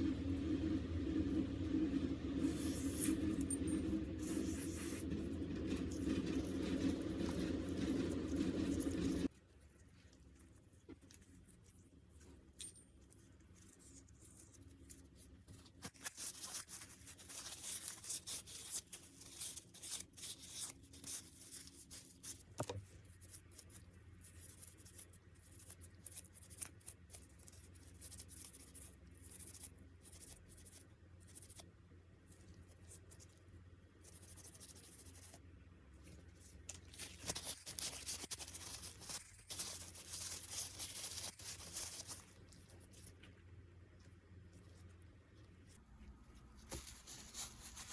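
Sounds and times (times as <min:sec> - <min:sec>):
hands scraping small parts: 0:02.4 - 0:43.4.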